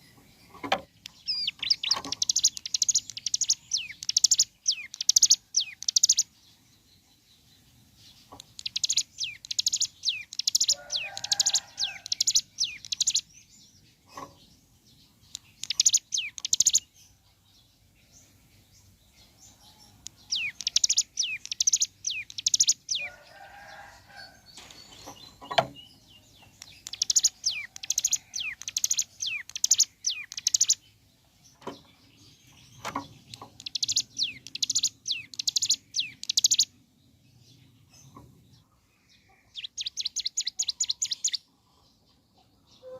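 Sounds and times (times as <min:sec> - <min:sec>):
bird singing rapid high trills: 0:00.0 - 0:17.2, 0:17.8 - 0:36.8, 0:39.2 - 0:41.5.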